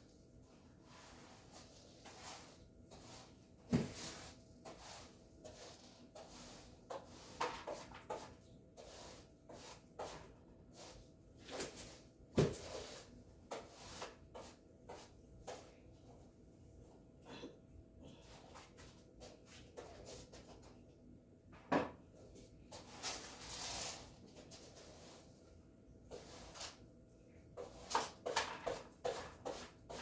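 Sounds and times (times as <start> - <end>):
floor cleaning scrapes and knocks: 0.4 - 16.3, 18.2 - 20.8, 21.5 - 30.0.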